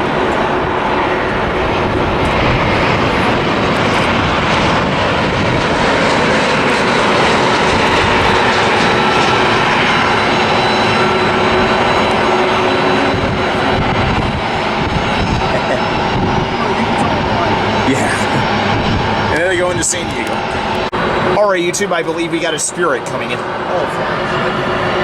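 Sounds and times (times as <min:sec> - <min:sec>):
jet airliner landing: 0:00.0 - 0:25.0.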